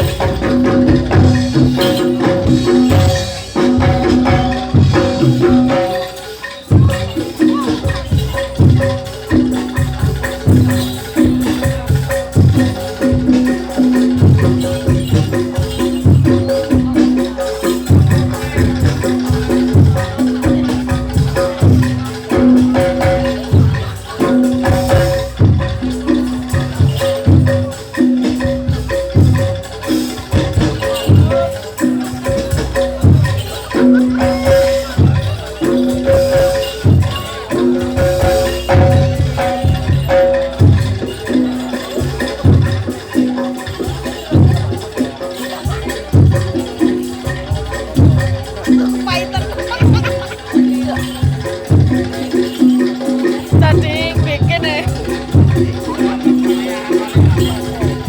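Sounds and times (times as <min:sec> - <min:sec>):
drum strokes: 0:00.0 - 0:58.0
gamelan music: 0:00.0 - 0:58.0
metallophones held tones: 0:00.0 - 0:58.0.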